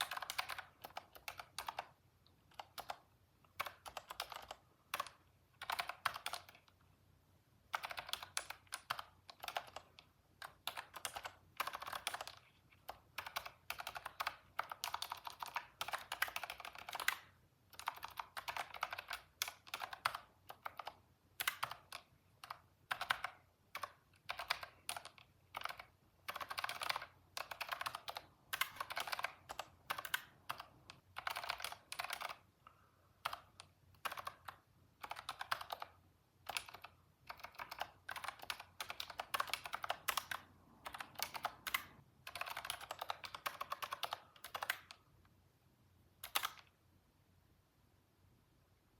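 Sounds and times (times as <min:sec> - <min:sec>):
computer keyboard typing: 0:00.0 - 0:06.8, 0:07.6 - 0:45.1, 0:46.2 - 0:46.8.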